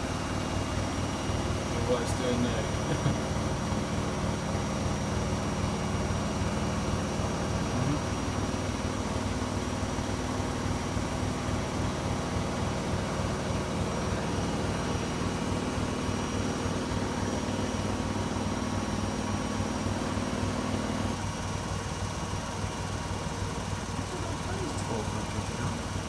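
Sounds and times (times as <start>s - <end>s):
washing machine spinning: 0.0s - 26.0s.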